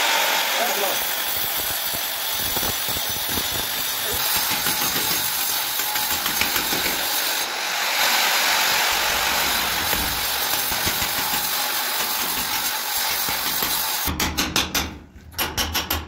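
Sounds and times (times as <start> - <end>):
angle grinder cutting masonry: 0.0 - 14.1.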